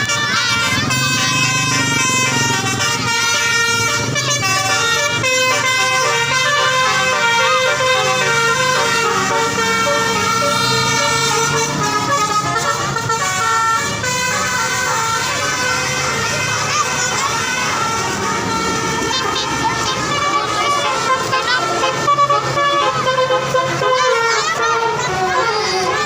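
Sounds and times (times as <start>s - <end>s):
multi-note horn tune: 0.0s - 26.0s.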